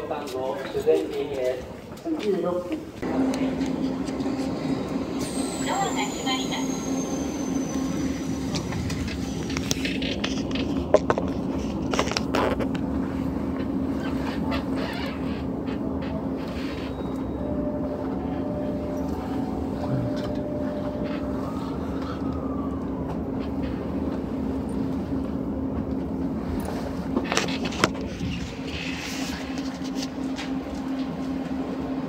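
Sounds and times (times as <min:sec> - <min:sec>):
train car hum: 0:00.0 - 0:32.0.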